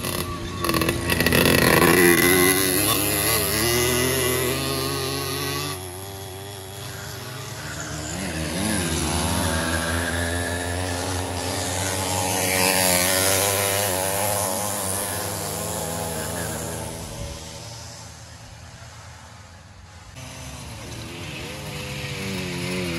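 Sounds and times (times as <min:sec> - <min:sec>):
moped engines revving: 0:00.0 - 0:22.9.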